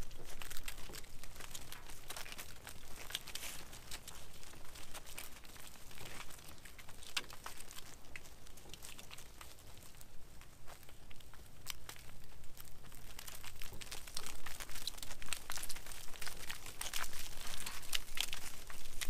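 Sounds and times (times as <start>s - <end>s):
sheep hooves on wet concrete: 0.0s - 19.0s.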